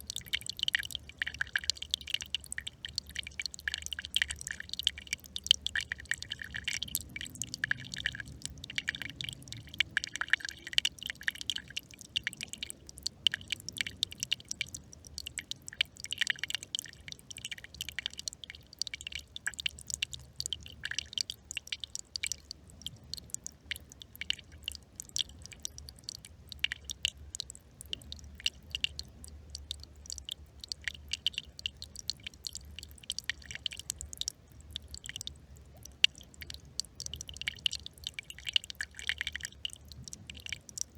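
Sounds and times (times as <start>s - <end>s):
small brook trickling: 0.0s - 40.9s.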